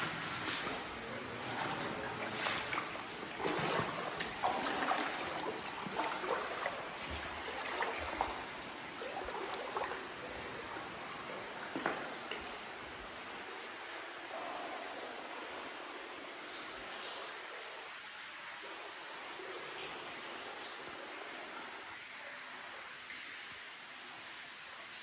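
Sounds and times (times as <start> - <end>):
sloshes and splashes in water: 0.0 - 25.0
steady hiss of water: 0.0 - 25.0.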